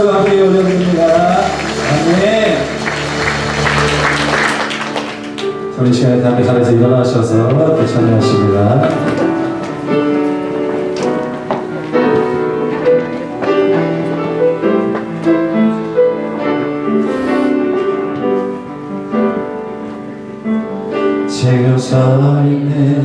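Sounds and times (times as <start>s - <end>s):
keyboard instrumental: 0.0s - 21.7s.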